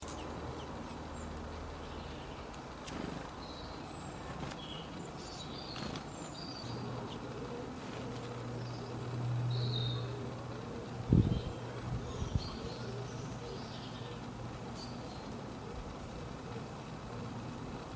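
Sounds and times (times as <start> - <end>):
low steady hum: 0.0 - 17.9
songbirds chirping: 0.0 - 17.9.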